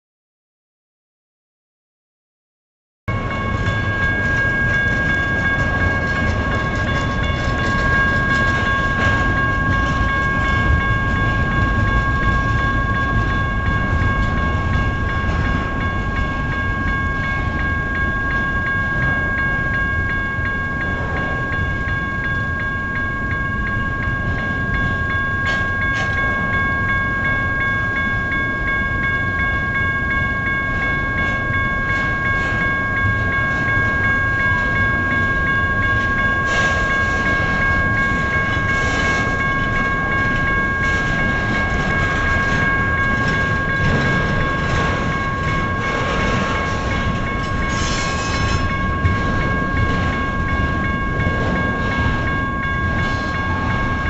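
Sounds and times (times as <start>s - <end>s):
crossing bell ringing: 3.1s - 54.0s
freight train wheels rumbling: 3.1s - 54.0s.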